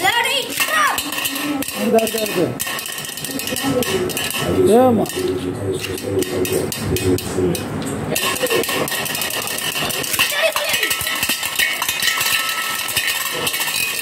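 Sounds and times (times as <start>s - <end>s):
spinning tops whirring on metal plate: 0.0s - 14.0s.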